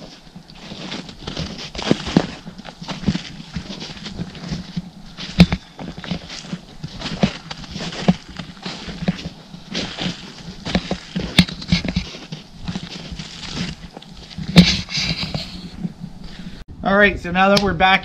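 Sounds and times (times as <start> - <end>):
footsteps crunching through snow: 0.0 - 16.6.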